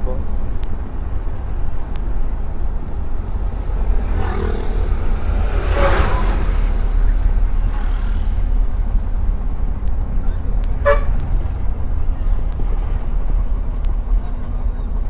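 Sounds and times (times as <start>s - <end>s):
passing traffic rushing: 0.0s - 15.0s
truck engine rumble in cab: 0.0s - 15.0s.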